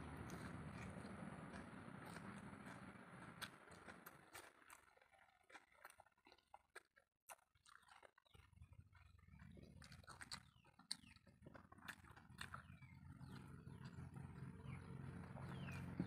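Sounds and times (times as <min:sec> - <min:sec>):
children chewing and lip-smacking: 0:00.0 - 0:16.0.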